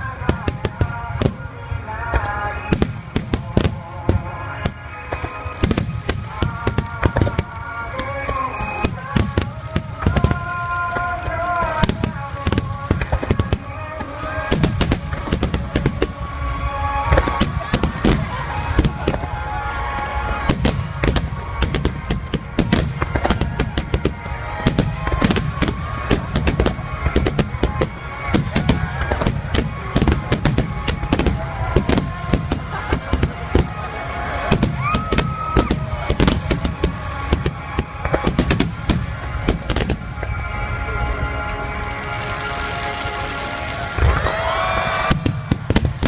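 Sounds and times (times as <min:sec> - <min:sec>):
fireworks bursting: 0:00.0 - 0:46.0
music playing: 0:00.0 - 0:46.0.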